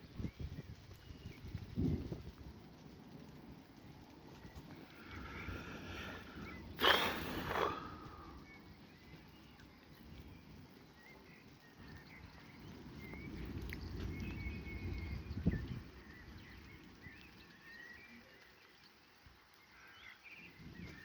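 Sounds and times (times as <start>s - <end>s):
distant thunder rumble: 0.0s - 17.8s
birds chirping: 0.0s - 21.0s.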